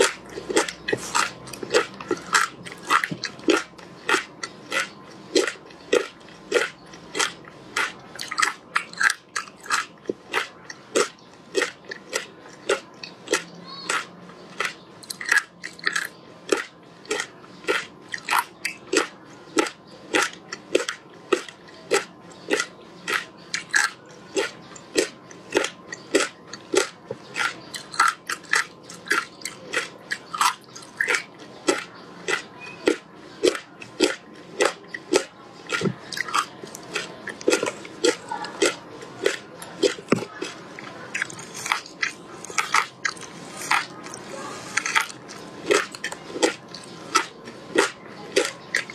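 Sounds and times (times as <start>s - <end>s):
crunching of ice being chewed: 0.0s - 48.9s.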